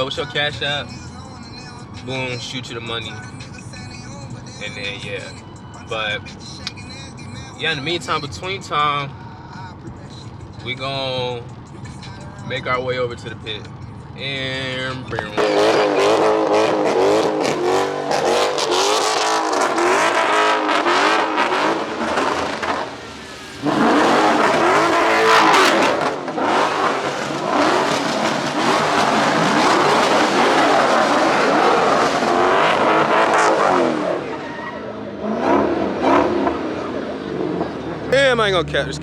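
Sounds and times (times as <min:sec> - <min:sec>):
tyres skidding: 0:00.0 - 0:39.0
car engine revving hard: 0:07.2 - 0:39.0.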